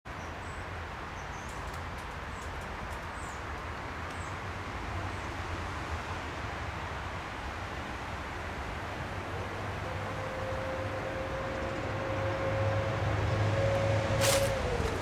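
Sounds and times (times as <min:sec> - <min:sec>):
outdoor background hiss: 0:00.1 - 0:15.0.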